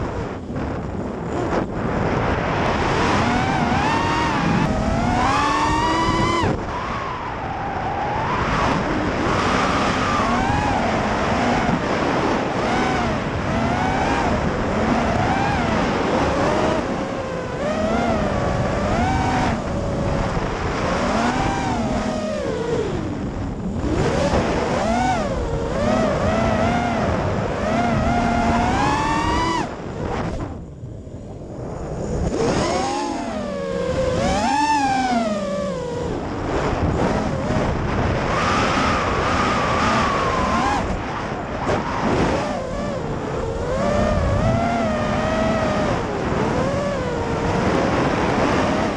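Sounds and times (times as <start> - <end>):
drone motors and propellers whining: 0.0 - 48.9.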